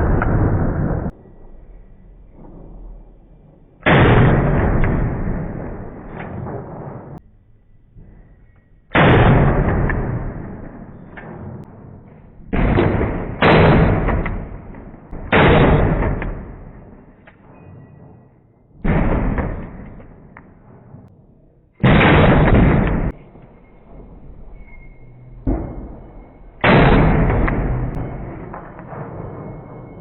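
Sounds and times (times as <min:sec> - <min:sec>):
slowed gunfire deep booms: 0:00.0 - 0:01.2, 0:02.1 - 0:07.2, 0:08.9 - 0:24.7, 0:25.3 - 0:30.0.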